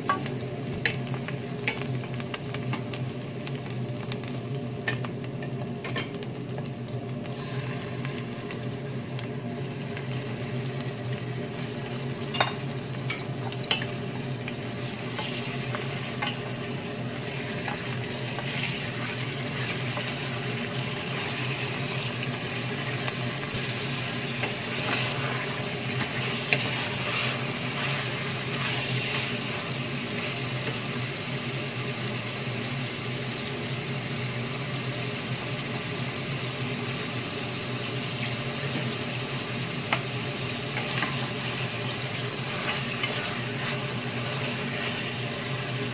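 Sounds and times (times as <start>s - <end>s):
onion and meat sizzling in a pot: 0.0s - 45.9s.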